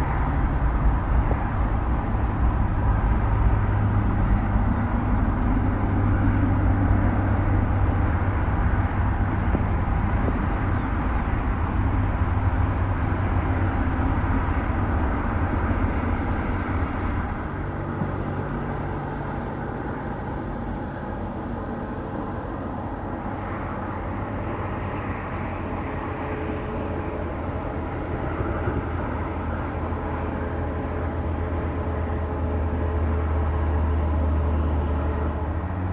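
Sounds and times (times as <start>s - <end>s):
jet engines humming: 0.0s - 35.9s.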